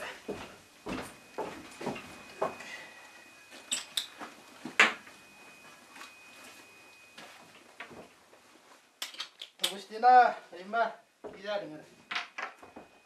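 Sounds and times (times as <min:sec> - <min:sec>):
faint high whine: 0:00.0 - 0:08.8, 0:09.6 - 0:13.0.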